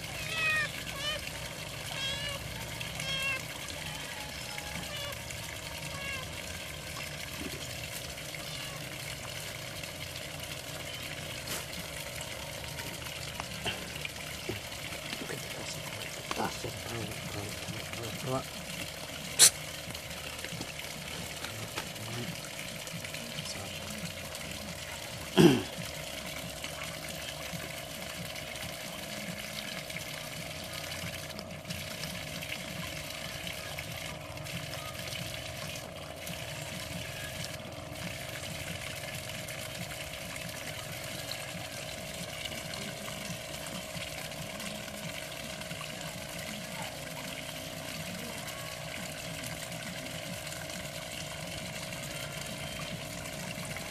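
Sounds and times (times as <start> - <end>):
fountain splashing into pond: 0.0 - 53.9.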